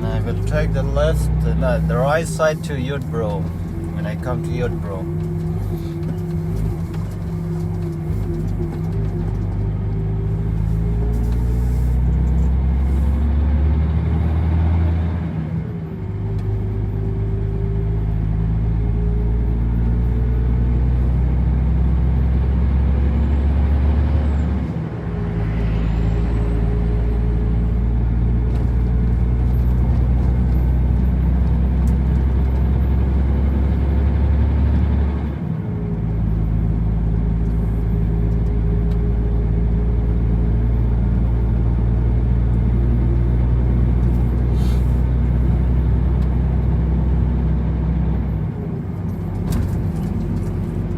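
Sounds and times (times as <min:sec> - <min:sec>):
diesel truck engine pulling: 0:00.0 - 0:50.9.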